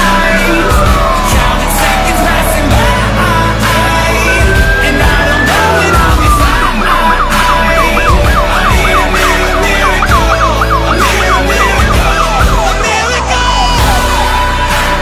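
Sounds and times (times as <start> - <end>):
police siren yelping: 0.0 - 14.5
background music with bass beat: 0.0 - 15.0.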